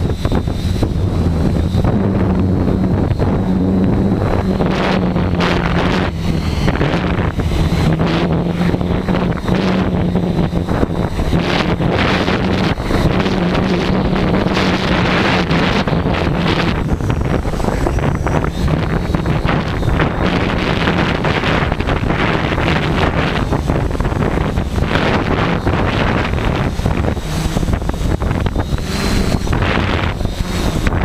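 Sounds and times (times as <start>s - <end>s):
drone motors humming: 0.0s - 31.0s
wind buffeting microphone: 0.0s - 31.0s.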